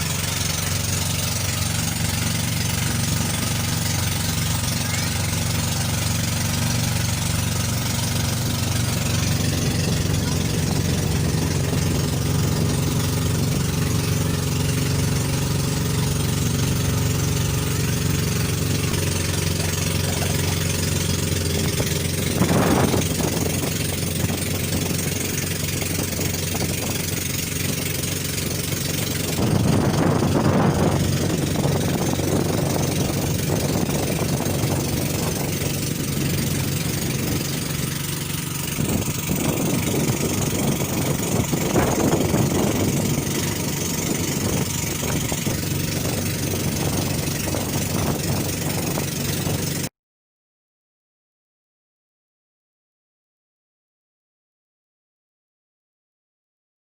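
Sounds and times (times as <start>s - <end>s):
boat engine droning: 0.0s - 49.9s
rushes of noise: 0.0s - 49.9s.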